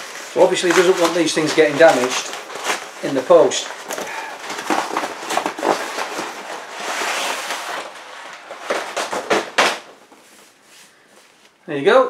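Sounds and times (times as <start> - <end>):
cardboard packaging crackling: 0.0 - 11.1
sliding rustle: 0.0 - 11.6.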